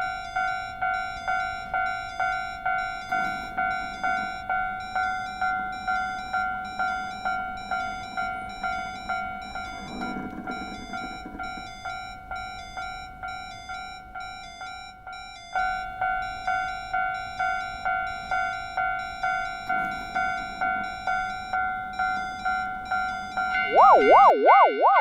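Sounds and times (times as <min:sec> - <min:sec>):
level crossing warning bell: 0:00.0 - 0:25.0
louder crossing bell crisp strikes: 0:00.0 - 0:25.0.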